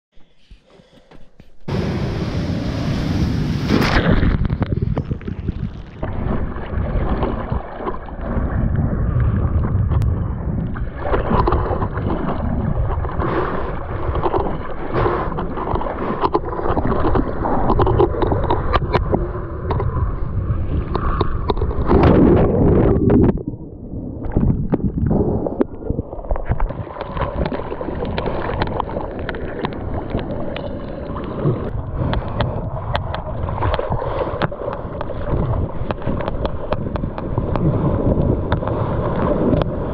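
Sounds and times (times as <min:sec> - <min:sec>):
wind buffeting microphone: 0:01.7 - 0:29.0, 0:31.4 - 0:39.9
water splashing and gurgling: 0:01.7 - 0:39.9.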